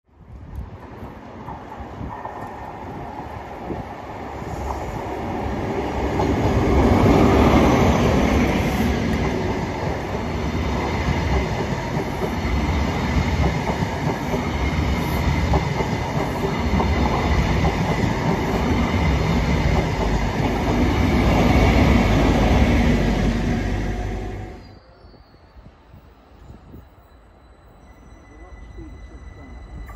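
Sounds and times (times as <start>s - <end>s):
diesel train passing: 0.3s - 29.9s
train coaches rumbling: 0.7s - 29.9s.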